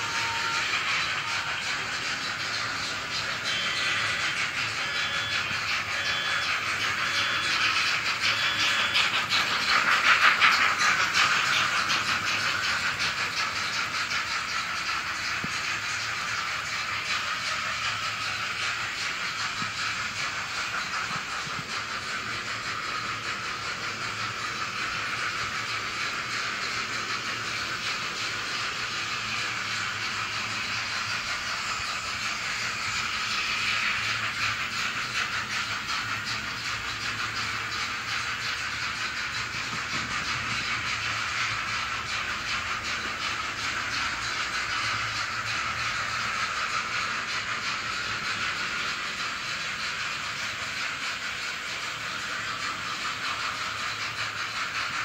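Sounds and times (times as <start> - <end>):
steam chuffs through small speaker: 0.0 - 55.0.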